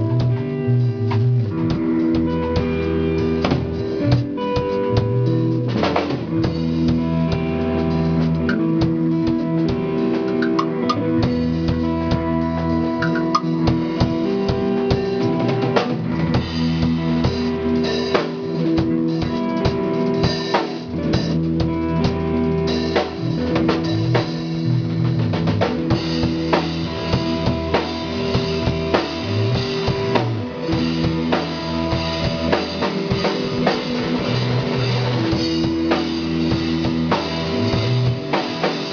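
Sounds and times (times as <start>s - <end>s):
drum kit kick and snare: 0.0s - 38.9s
guitar chords: 0.0s - 38.9s
held bass notes: 0.0s - 38.9s.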